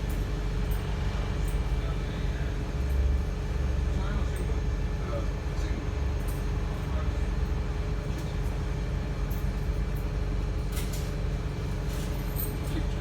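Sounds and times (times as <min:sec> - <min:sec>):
ticks and rattles from bus body: 0:00.0 - 0:13.0.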